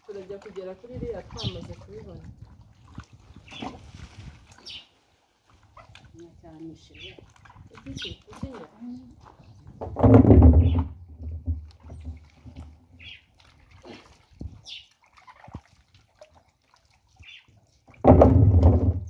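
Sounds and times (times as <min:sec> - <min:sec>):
water splashing in a barrel: 0:00.0 - 0:19.0.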